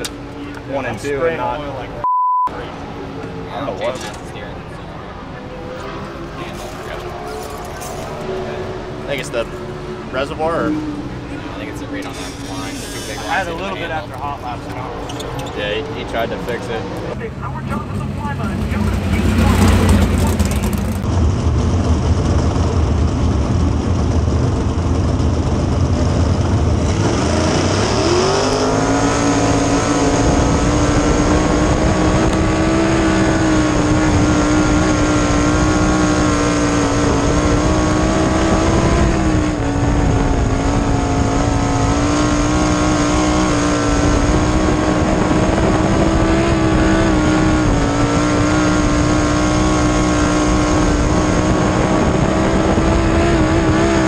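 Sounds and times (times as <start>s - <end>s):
race car engine revving: 2.6s - 54.0s.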